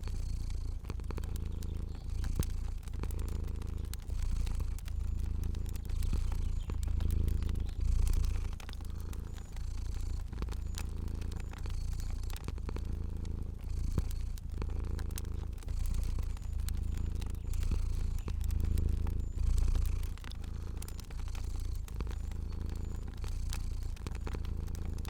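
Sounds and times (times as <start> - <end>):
cat purring: 0.0 - 25.0
fire crackling and popping: 0.0 - 25.0.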